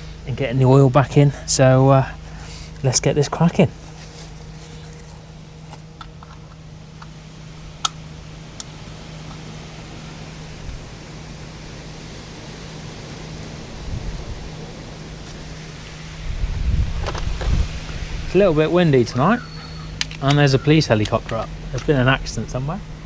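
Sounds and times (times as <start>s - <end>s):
helicopter drone overhead: 0.0s - 23.0s
wind buffeting microphone: 4.4s - 23.0s.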